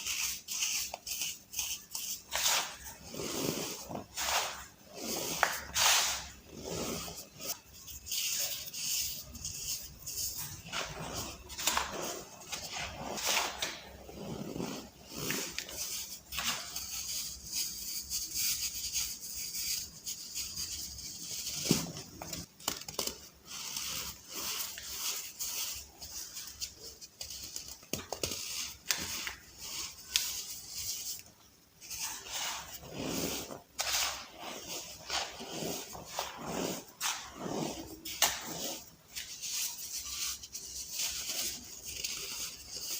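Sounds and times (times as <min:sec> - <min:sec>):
soft balls crunching and crackling: 0:01.7 - 0:16.8, 0:20.6 - 0:42.9.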